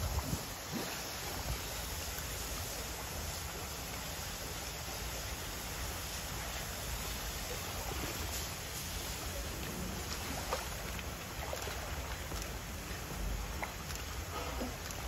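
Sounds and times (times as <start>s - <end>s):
ambient hiss: 0.0s - 15.0s.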